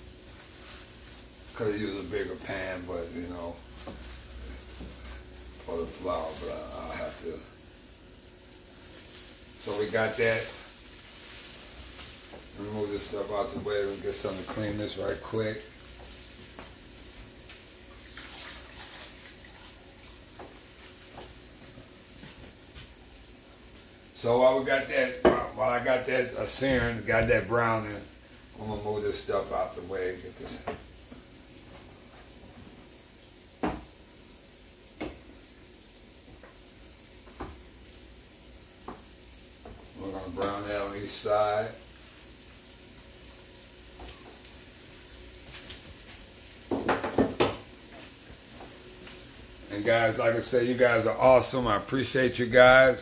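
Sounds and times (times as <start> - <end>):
meat sizzling in oil: 0.0 - 51.2.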